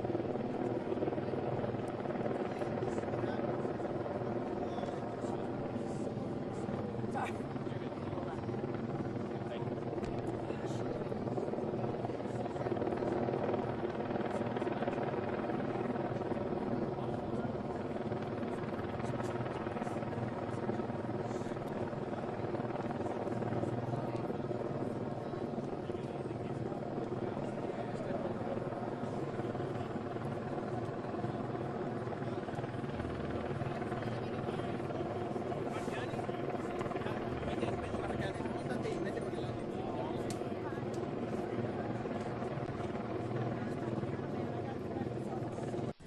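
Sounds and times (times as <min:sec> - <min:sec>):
helicopter rotor and engine drone: 0:00.0 - 0:46.0.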